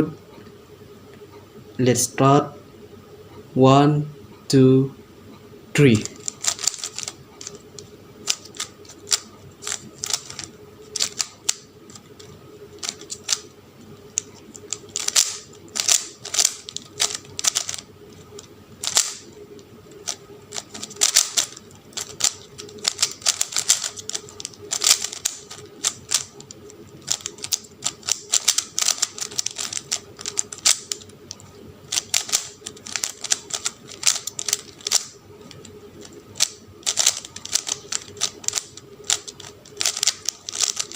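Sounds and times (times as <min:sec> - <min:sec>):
puzzle cube clicking: 0:06.0 - 0:13.5, 0:14.1 - 0:19.2, 0:20.0 - 0:31.1, 0:31.9 - 0:40.9.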